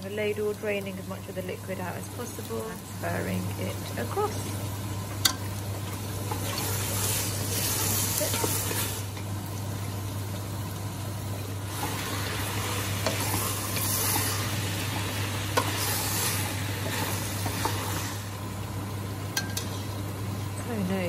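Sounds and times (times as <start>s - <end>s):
sauce sizzling in a pan: 0.0s - 21.0s.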